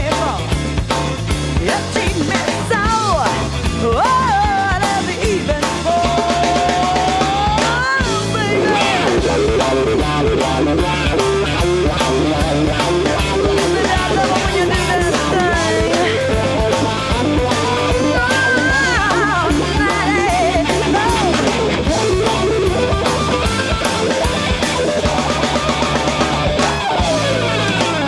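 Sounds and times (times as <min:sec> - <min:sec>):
bass: 0:00.0 - 0:28.0
drums: 0:00.0 - 0:28.0
electric guitar lead: 0:00.0 - 0:28.0.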